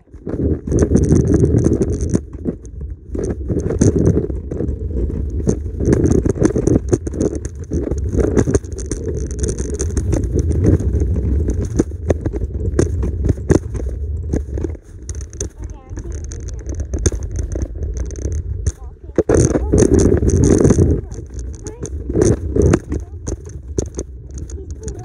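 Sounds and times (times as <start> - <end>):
clicks and knocks: 0.0 - 25.0
scooter wheels rolling on concrete: 0.0 - 25.0.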